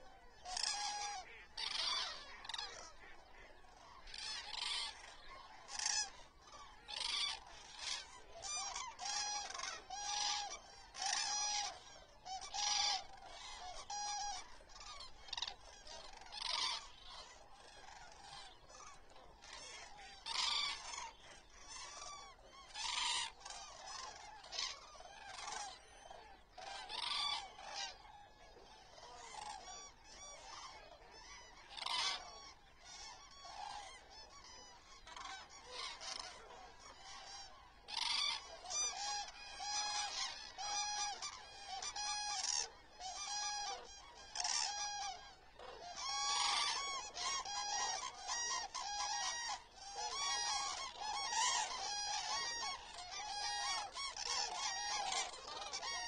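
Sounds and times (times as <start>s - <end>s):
flock of cranes calling: 0.0s - 56.0s.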